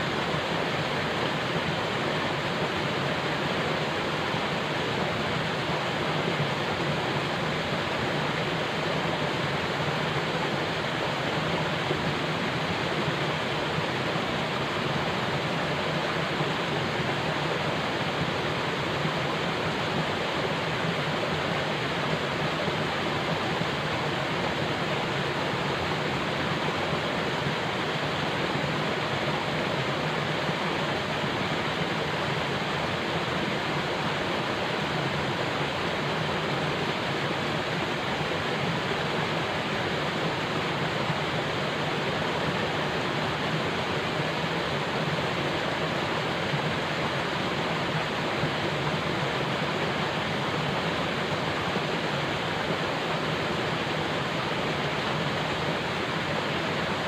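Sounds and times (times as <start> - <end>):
rush of falling water: 0.0 - 57.0.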